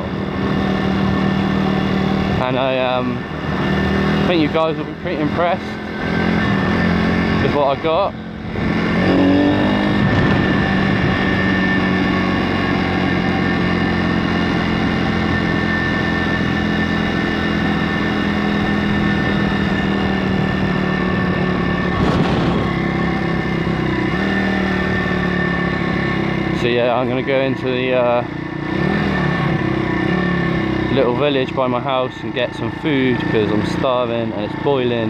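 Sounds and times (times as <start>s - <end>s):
rush of wind: 0.0s - 31.1s
motorcycle engine running: 0.0s - 35.0s.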